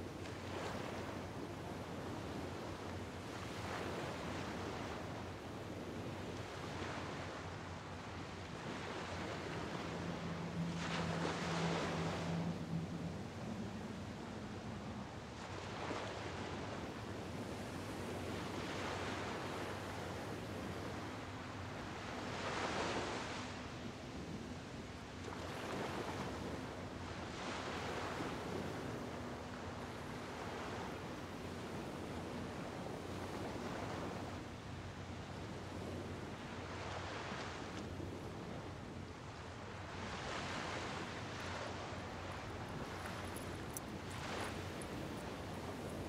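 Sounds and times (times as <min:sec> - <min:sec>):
waves washing onto shore: 0:00.0 - 0:46.0.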